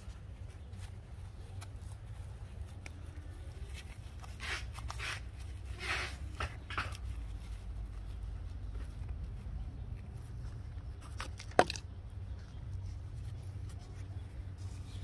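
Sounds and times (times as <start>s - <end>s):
plastic pot crackling: 0.0s - 15.0s.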